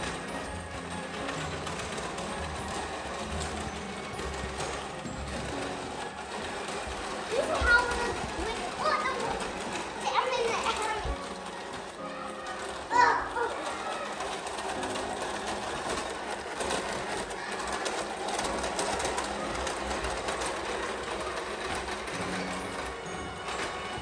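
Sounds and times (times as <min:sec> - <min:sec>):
toy train motor whirring: 0:00.0 - 0:24.0
wheels rattling on plastic track: 0:00.0 - 0:24.0.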